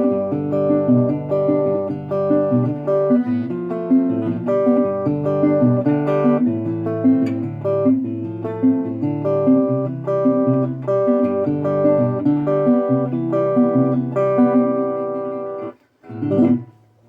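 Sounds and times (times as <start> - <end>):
resonator guitar picked notes: 0.0 - 16.9.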